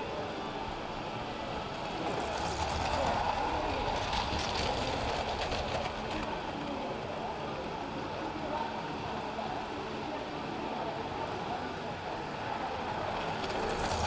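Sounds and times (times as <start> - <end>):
model train wheels rumbling on track: 0.0 - 14.0.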